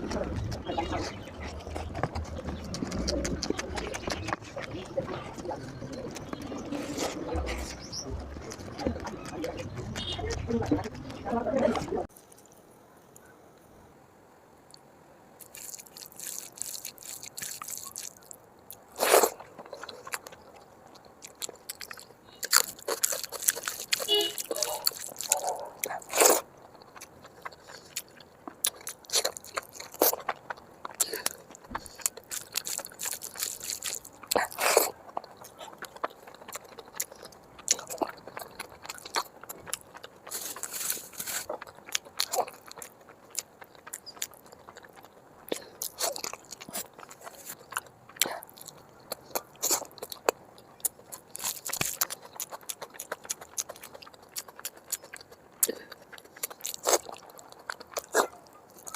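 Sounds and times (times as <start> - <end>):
wet chewing and smacking: 0.0 - 12.2, 15.4 - 58.9.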